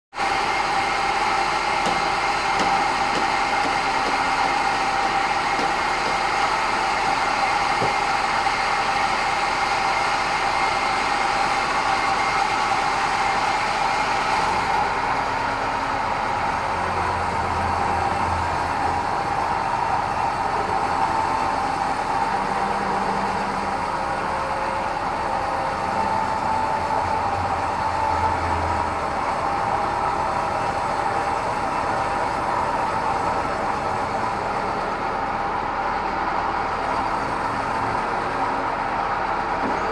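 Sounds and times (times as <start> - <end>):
band sawmill high hum: 0.2 - 39.9.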